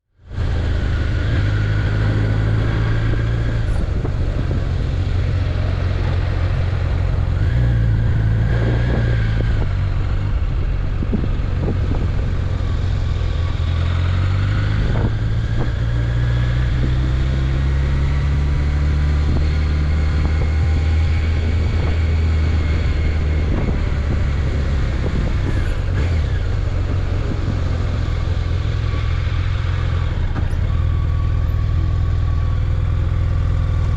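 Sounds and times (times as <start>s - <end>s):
motorcycle engine running: 0.3s - 33.9s.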